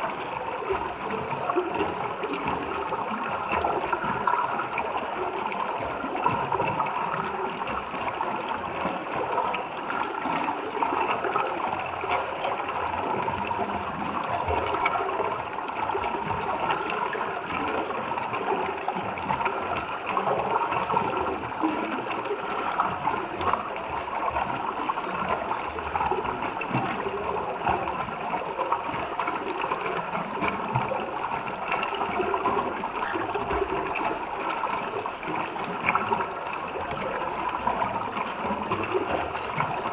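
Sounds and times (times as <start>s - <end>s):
stream bubbling and gurgling: 0.0s - 39.9s.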